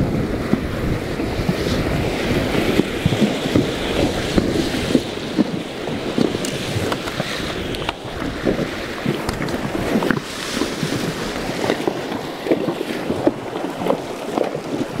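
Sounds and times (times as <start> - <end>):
hooves splashing in water: 0.0 - 15.0
river current rushing: 0.0 - 15.0
wind buffeting microphone: 0.0 - 15.0.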